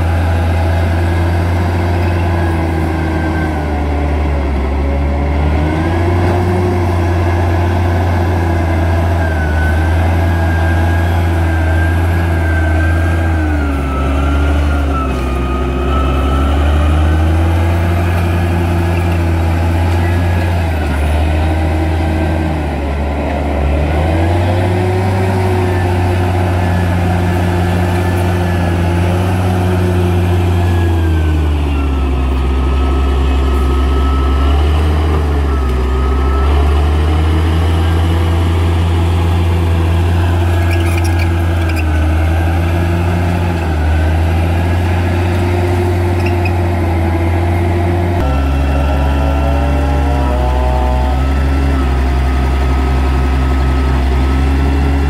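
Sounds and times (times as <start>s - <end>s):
diesel engine running hard: 0.0s - 55.0s.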